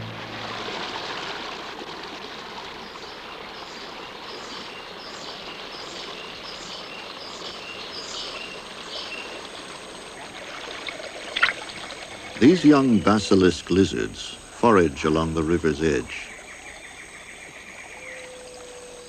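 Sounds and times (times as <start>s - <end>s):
river water rushing: 0.0s - 16.8s.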